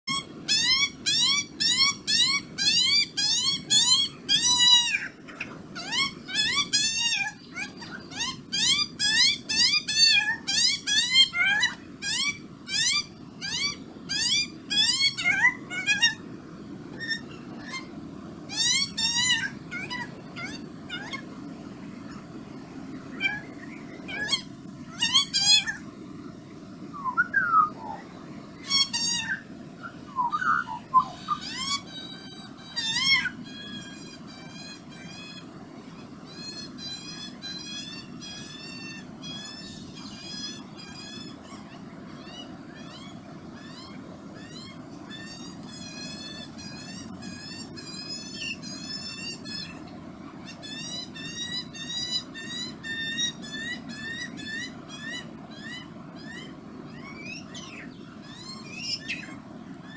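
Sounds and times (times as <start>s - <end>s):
young magpie begging calls: 0.1s - 5.2s, 5.8s - 16.3s, 16.9s - 17.9s, 18.5s - 21.3s, 23.1s - 25.8s, 28.6s - 35.5s, 36.3s - 49.8s, 50.5s - 59.9s.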